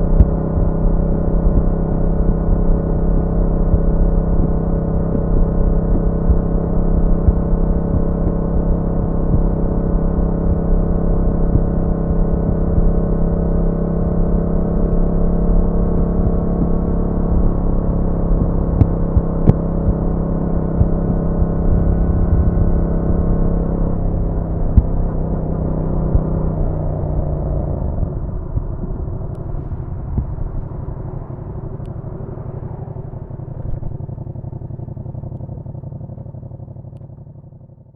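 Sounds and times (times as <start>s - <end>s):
motorcycle engine running steadily: 0.0s - 37.9s.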